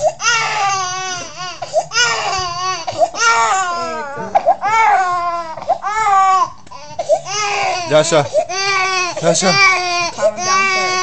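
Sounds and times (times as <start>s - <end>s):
baby crying: 0.0s - 11.0s.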